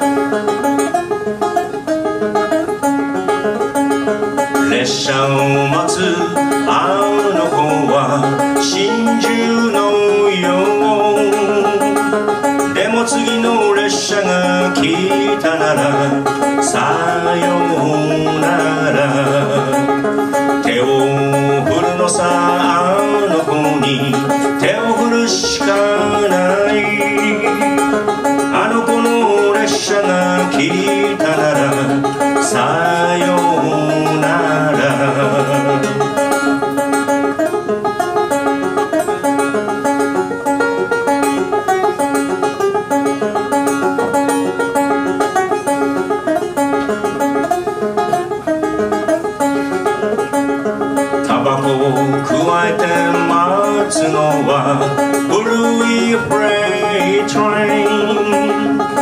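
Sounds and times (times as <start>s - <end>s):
banjo picking melody: 0.0s - 59.0s.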